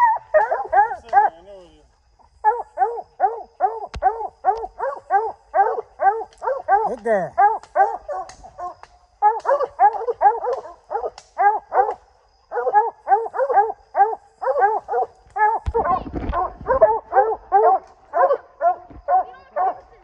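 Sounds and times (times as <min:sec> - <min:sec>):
hounds barking: 0:00.0 - 0:20.0.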